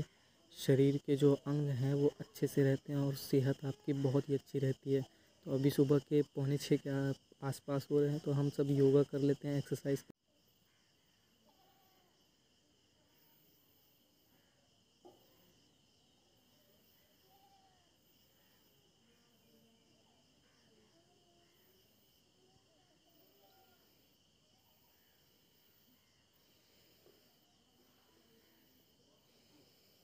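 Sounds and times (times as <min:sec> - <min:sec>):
crickets droning: 0:00.0 - 0:30.0.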